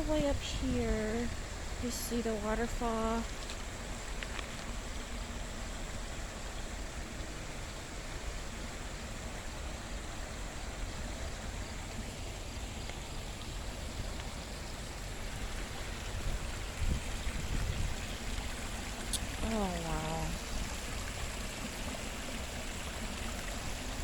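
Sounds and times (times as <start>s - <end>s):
waterfall splashing and rushing: 0.0s - 24.0s.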